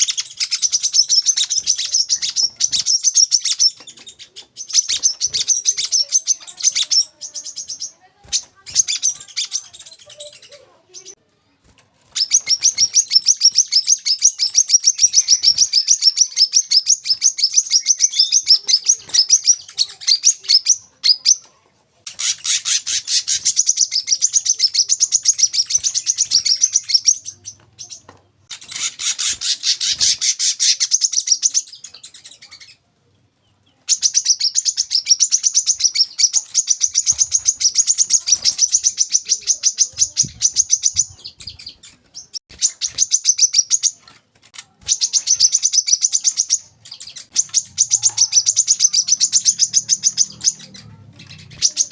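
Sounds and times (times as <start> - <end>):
sunbird high-pitched chirping song: 0.0 - 11.2, 12.1 - 21.5, 22.1 - 32.8, 33.4 - 51.9.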